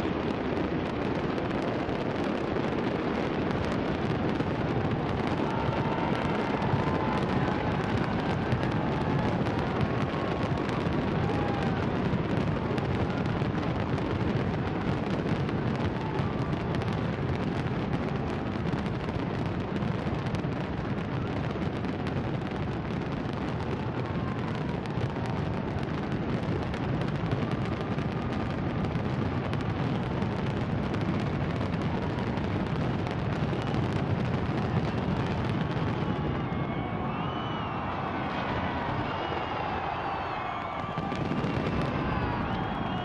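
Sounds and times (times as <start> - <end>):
faint fireworks whistles: 0.0 - 43.0
fireworks bangs and crackles: 0.0 - 43.0.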